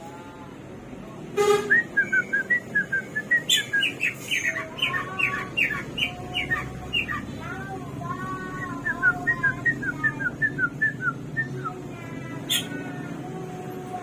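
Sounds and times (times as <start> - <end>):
songbird singing: 1.6 - 12.9.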